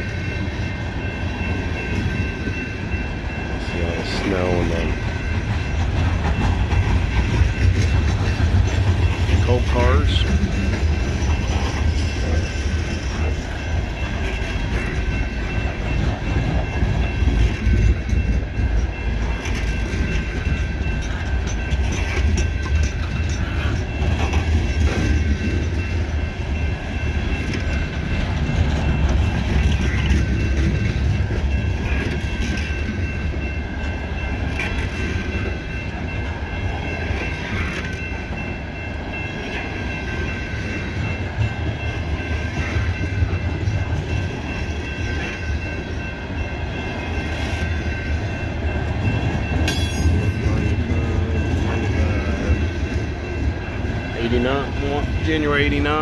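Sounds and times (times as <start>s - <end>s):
freight train wheels rumbling on rail: 0.0s - 56.0s
wheels clacking on track: 0.0s - 56.0s.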